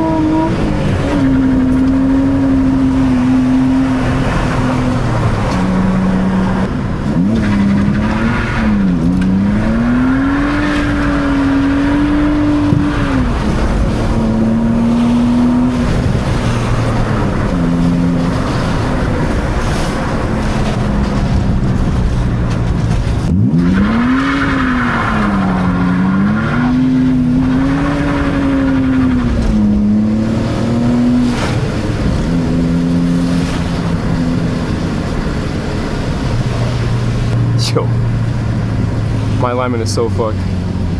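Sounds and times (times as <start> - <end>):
car engine revving hard: 0.0 - 37.4.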